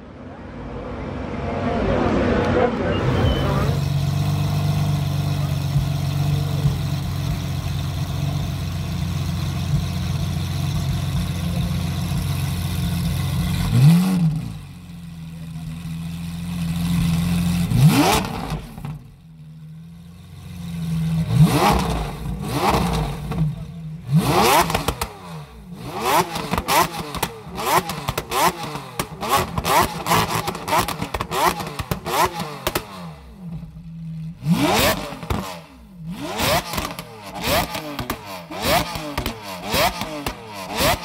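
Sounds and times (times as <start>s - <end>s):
engine revving: 0.5s - 14.7s, 15.6s - 19.1s, 20.4s - 41.0s
sports car engine idling: 2.8s - 41.0s.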